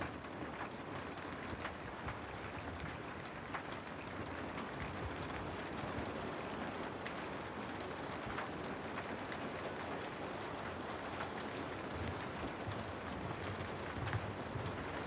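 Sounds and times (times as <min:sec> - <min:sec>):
rain drops pattering: 0:00.0 - 0:15.0.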